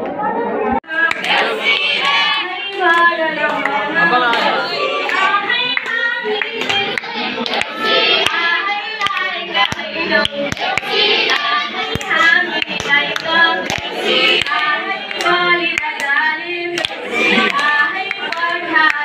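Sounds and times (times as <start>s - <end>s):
voices singing together: 0.8s - 19.0s
hand claps: 1.0s - 19.0s.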